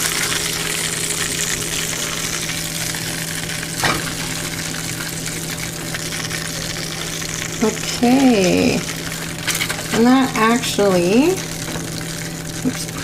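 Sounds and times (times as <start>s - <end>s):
chicken sizzling in a pan: 0.0s - 13.0s
steady low hum: 0.0s - 13.0s.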